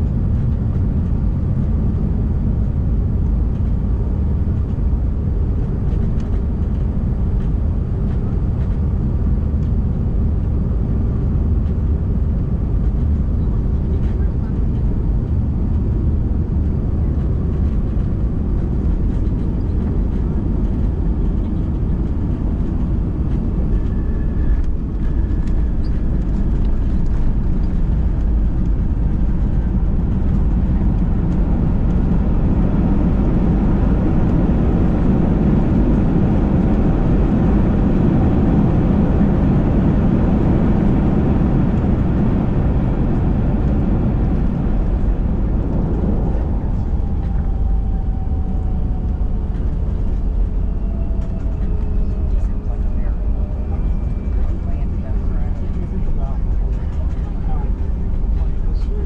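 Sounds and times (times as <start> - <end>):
airliner engine and air rush: 0.0 - 59.0.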